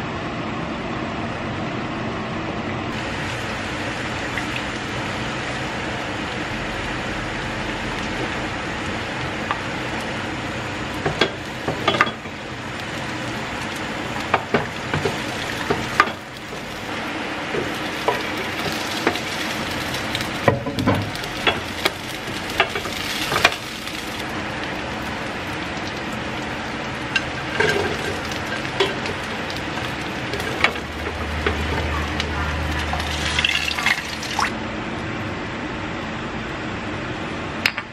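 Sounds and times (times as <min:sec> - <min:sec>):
vegetables sizzling in hot oil: 0:02.9 - 0:34.5.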